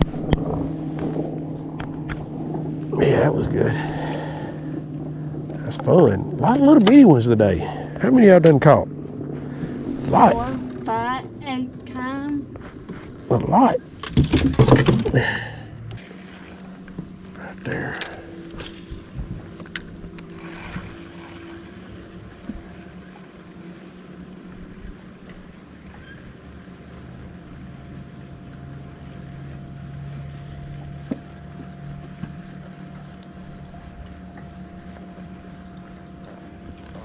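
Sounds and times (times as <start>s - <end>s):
boat motor humming: 0.0s - 37.0s.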